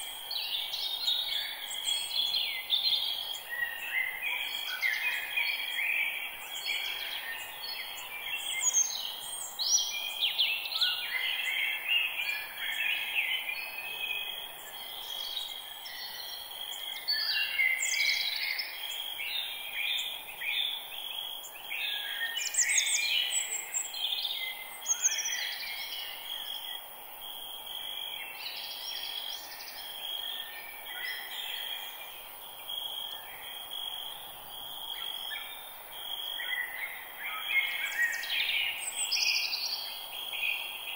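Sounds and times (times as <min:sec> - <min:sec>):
birds chirping chorus: 0:00.0 - 0:40.9.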